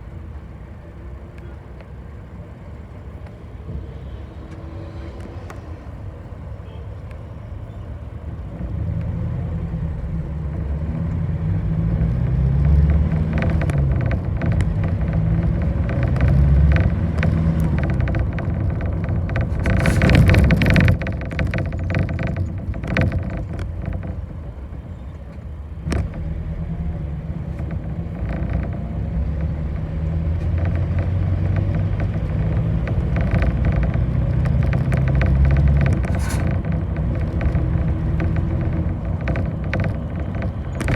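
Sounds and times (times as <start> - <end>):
bus engine drone: 0.0 - 40.9
road noise: 0.0 - 40.9.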